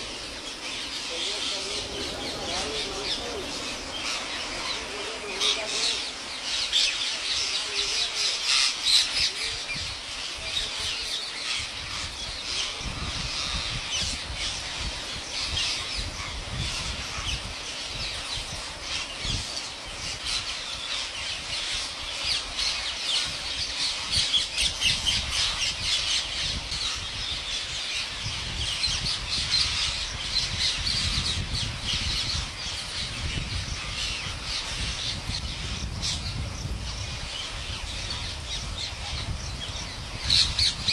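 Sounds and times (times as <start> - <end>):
parakeets screeching: 0.0 - 40.9.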